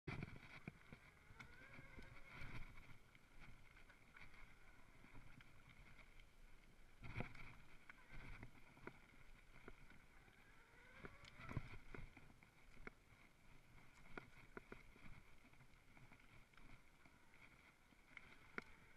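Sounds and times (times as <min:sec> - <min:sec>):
mountain bike tyres on dirt trail: 0:00.1 - 0:18.9.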